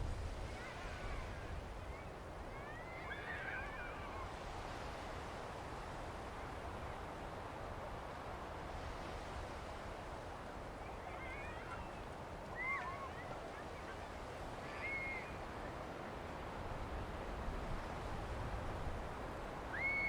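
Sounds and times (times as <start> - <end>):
surf on a beach: 0.0 - 20.0
wind: 0.0 - 20.0.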